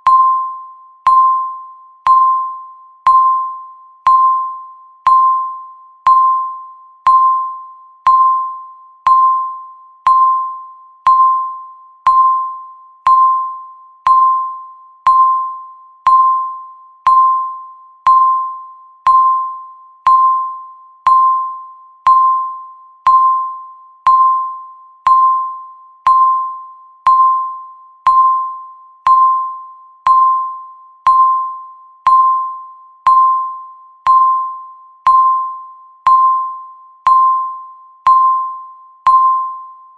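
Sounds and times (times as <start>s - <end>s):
electronic timer beep: 0.0s - 39.9s.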